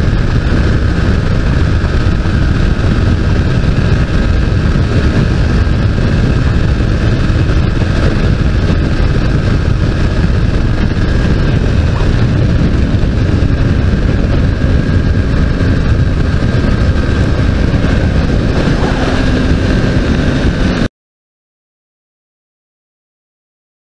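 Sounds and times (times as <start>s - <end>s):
motorcycle engine: 0.0s - 20.9s
wind rush on microphone: 0.0s - 20.9s.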